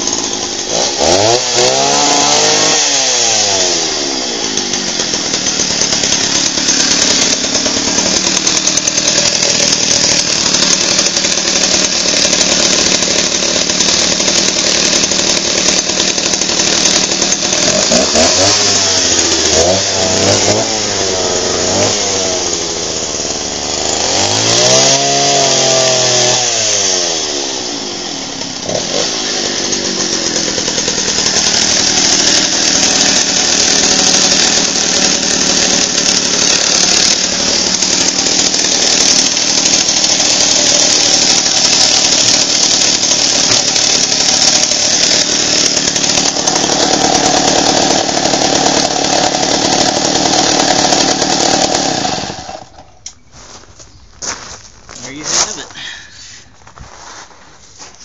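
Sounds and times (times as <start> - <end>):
chainsaw running at high revs: 0.0 - 53.1, 55.1 - 55.8.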